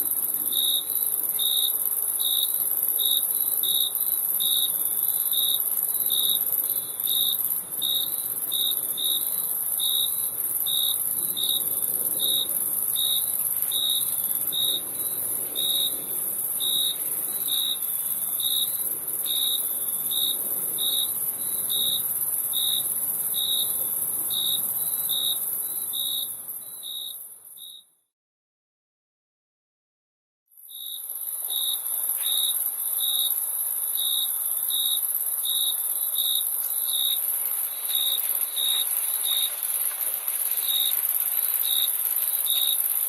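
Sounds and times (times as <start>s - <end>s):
lower cricket chirp: 0.0s - 27.9s, 30.6s - 43.0s.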